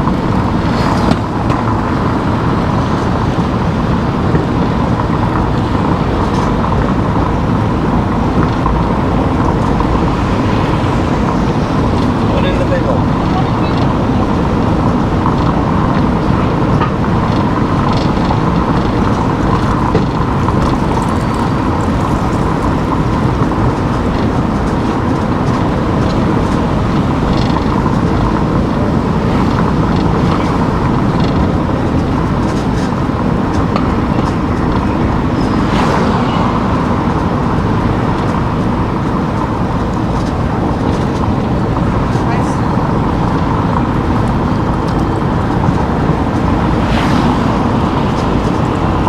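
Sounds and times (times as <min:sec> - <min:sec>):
car driving road and engine noise: 0:00.0 - 0:49.0.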